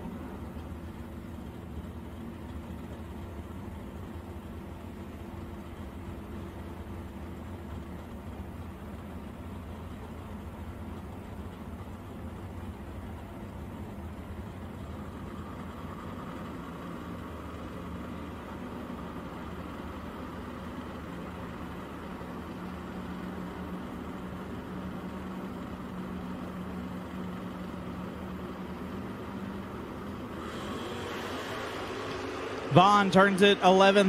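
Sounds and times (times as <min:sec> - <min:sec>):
race car engines idling: 0:00.0 - 0:34.0.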